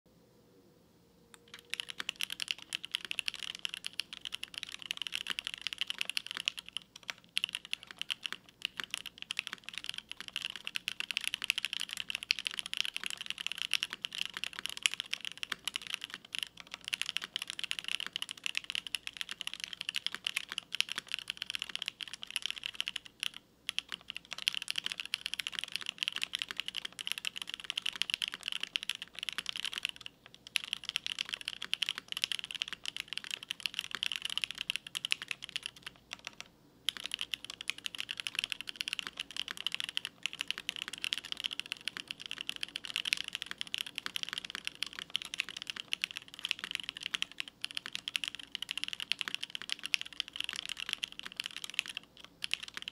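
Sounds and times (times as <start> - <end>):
mechanical keyboard typing: 1.4 - 52.9.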